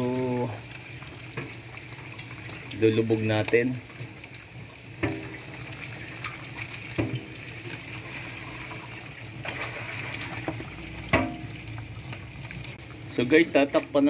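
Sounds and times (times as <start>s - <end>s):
broth simmering and bubbling: 0.0s - 14.0s.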